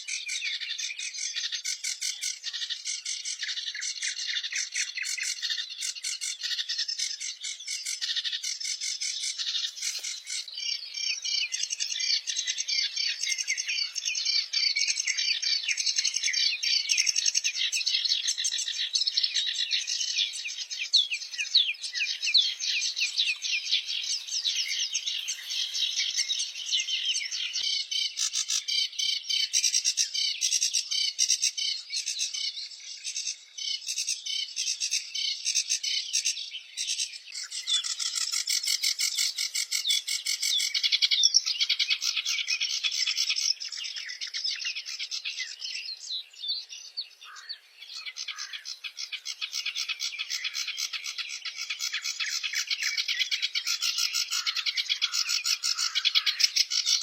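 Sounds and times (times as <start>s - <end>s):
small birds chirping chorus: 0.0s - 57.0s.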